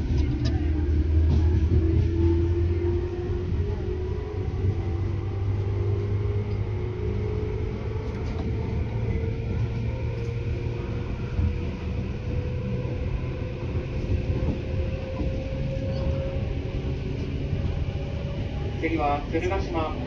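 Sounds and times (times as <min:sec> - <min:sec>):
train low hum: 0:00.0 - 0:20.0
train motor whine: 0:00.0 - 0:20.0.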